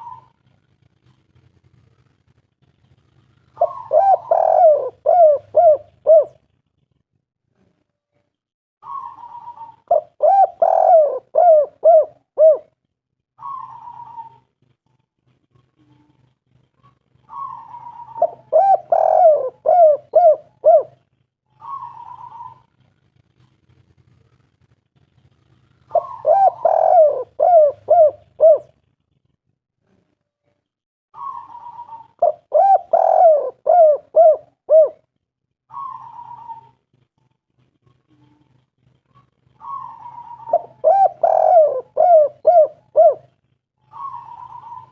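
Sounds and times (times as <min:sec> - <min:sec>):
dove cooing: 0:00.0 - 0:02.1, 0:03.1 - 0:06.5, 0:08.8 - 0:12.8, 0:13.4 - 0:14.7, 0:15.3 - 0:23.4, 0:25.4 - 0:29.4, 0:31.2 - 0:44.9.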